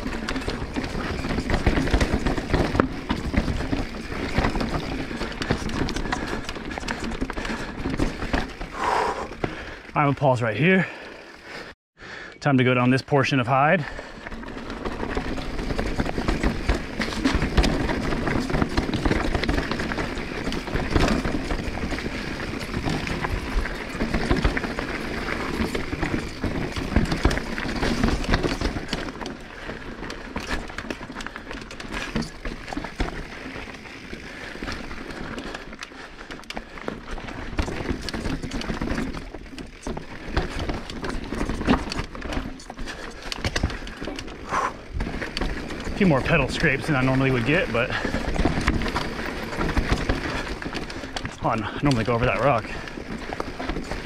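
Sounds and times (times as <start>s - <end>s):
bike tyres rolling over rock: 0.0s - 11.7s, 12.8s - 54.0s
bike clattering and rattling: 0.0s - 11.8s, 13.2s - 54.0s
pedals scraping on rock: 0.0s - 54.0s.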